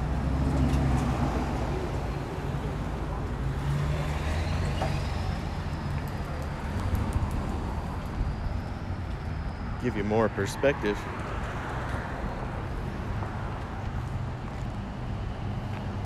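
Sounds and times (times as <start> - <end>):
vehicles driving past: 0.0 - 16.0.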